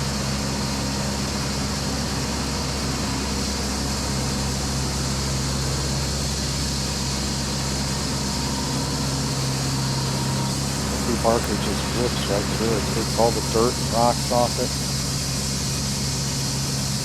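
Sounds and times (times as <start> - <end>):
band sawmill drone: 0.0 - 17.0.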